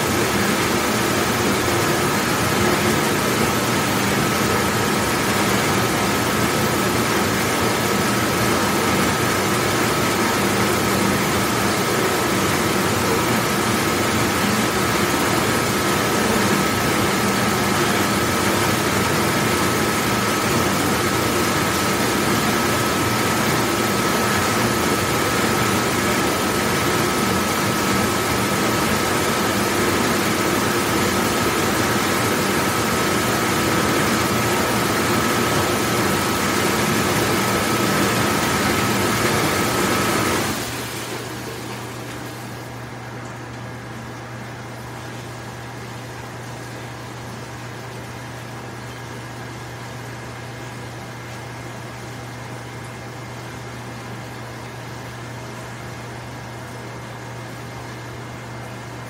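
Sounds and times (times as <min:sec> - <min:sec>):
dishwashing machine running: 0:00.0 - 0:59.0.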